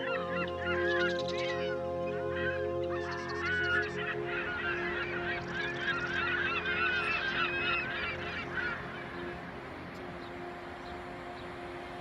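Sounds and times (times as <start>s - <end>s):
flock of birds squawking: 0.0s - 12.0s.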